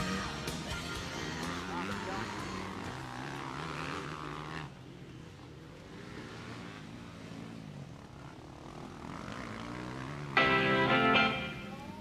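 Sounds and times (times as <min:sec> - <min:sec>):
motorbike engines droning: 0:00.0 - 0:12.0.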